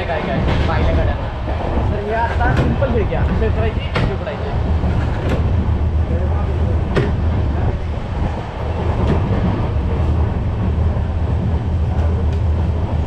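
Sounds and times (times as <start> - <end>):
train rumbling and rattling: 0.0 - 13.0.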